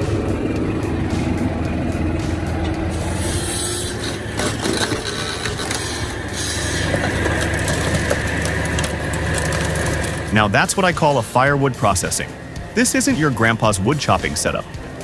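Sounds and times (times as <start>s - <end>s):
machinery engine droning: 0.0s - 15.0s.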